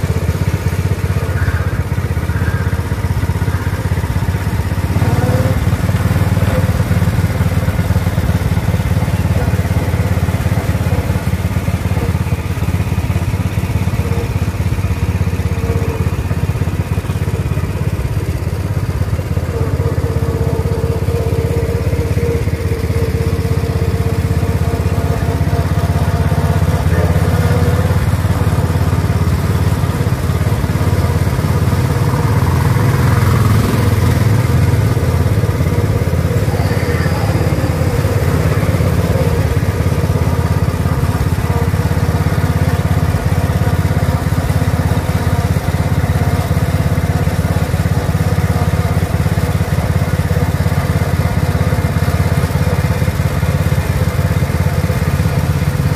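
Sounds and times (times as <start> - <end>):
small gasoline engine running: 0.0 - 55.9.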